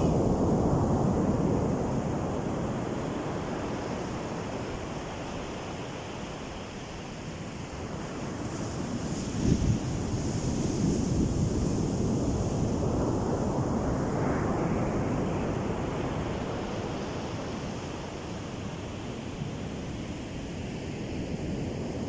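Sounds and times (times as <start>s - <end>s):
wind buffeting microphone: 0.0s - 19.8s.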